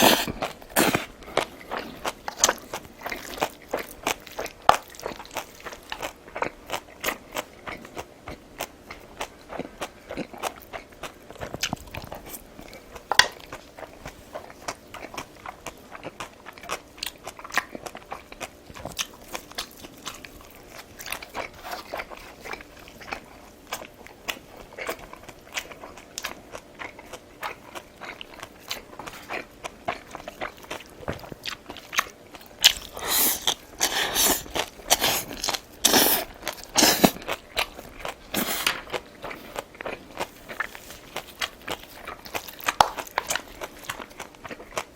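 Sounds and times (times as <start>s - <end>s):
chewing: 0.0s - 44.9s.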